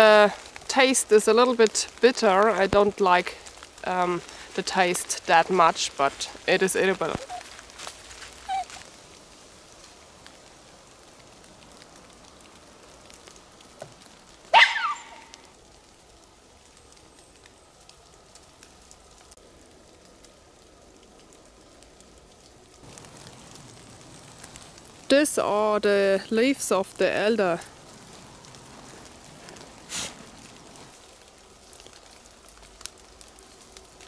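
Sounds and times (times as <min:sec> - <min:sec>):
water dripping from trees: 0:00.0 - 0:34.0.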